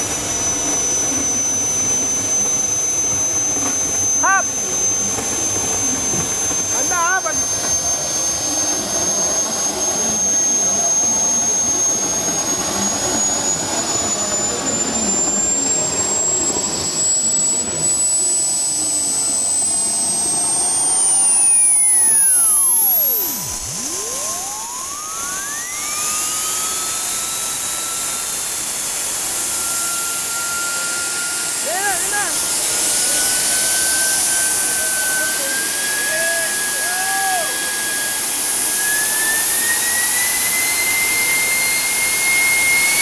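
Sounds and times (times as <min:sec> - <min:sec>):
high-pitched turbine whine: 0:00.0 - 0:43.0
jet turbine roar: 0:00.0 - 0:43.0.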